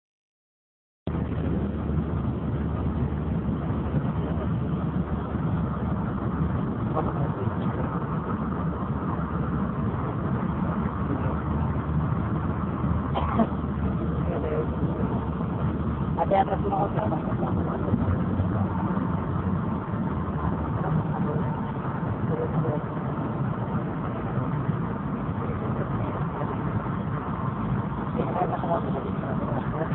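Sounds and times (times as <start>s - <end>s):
vehicle engines rumbling: 1.1s - 29.9s.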